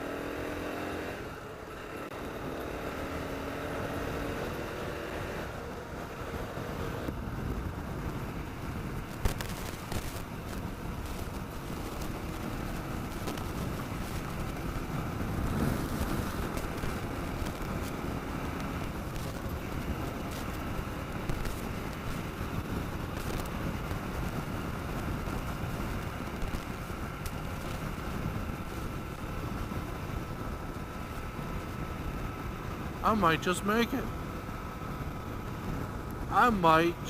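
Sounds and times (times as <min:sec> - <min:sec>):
motorcycle engine running: 0:00.0 - 0:37.0
wind rushing over microphone: 0:00.0 - 0:37.0.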